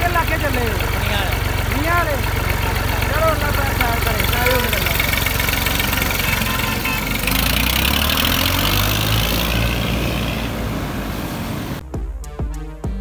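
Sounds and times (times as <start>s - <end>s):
tractor diesel engine running: 0.0s - 11.8s.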